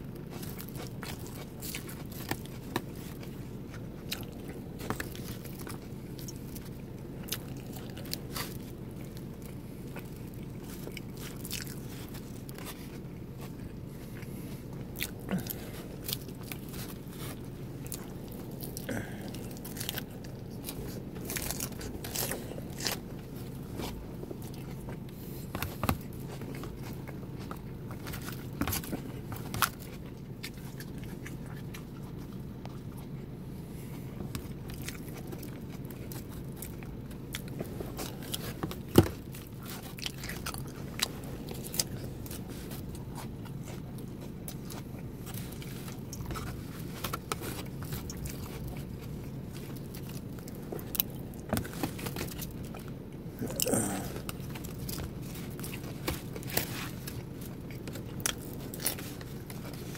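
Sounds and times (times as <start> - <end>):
wet crunching and biting: 0.0 - 33.2, 34.2 - 59.9.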